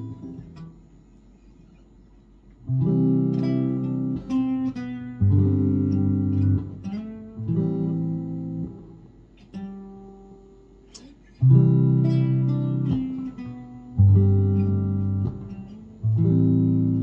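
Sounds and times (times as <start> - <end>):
clean electric guitar chords: 0.0 - 0.7, 2.6 - 10.6, 11.4 - 17.0.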